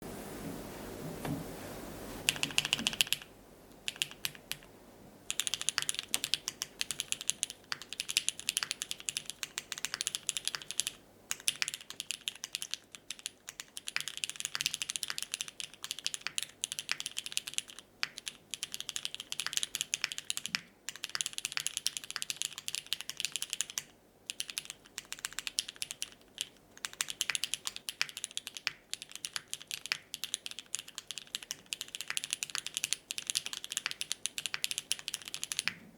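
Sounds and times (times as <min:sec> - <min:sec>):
typing on mechanical keyboard: 0:02.2 - 0:04.7, 0:05.3 - 0:35.8.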